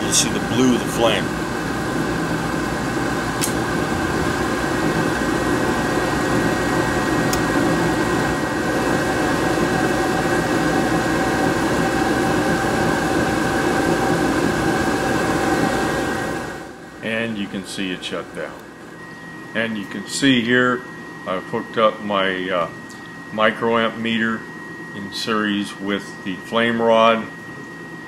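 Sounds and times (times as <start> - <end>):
furnace blower humming: 0.0 - 28.0.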